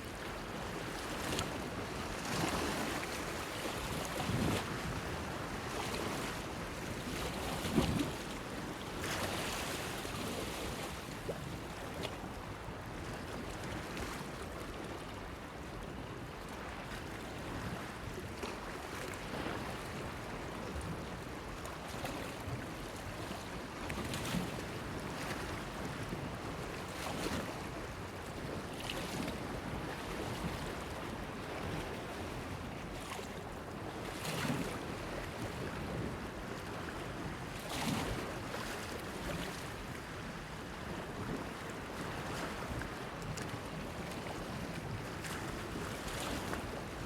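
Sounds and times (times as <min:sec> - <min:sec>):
wind: 0:00.0 - 0:47.0.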